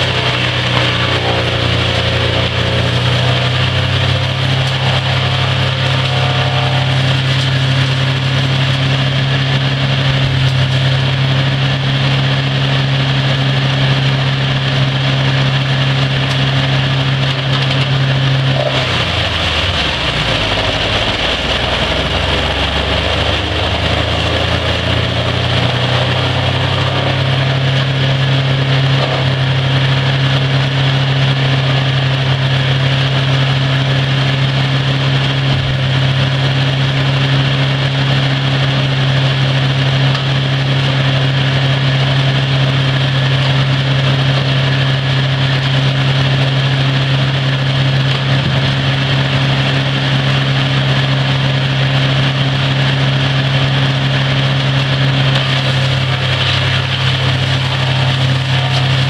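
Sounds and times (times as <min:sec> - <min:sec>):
gas engine droning steadily: 0:00.0 - 0:59.0.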